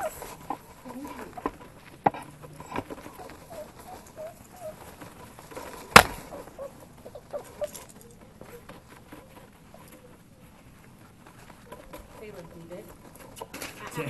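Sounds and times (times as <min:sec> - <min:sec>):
puppies whimpering: 0:00.0 - 0:14.0
puppy paws pattering on floor: 0:00.0 - 0:14.0.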